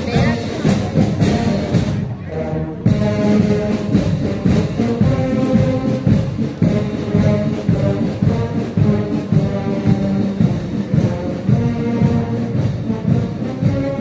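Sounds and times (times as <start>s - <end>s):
drum and cymbal beat: 0.0s - 2.1s, 2.7s - 14.0s
brass band playing a march: 0.0s - 14.0s.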